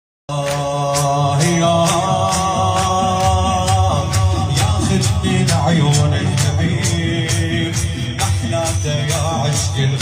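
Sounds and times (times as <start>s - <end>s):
steady beat: 0.3s - 10.0s.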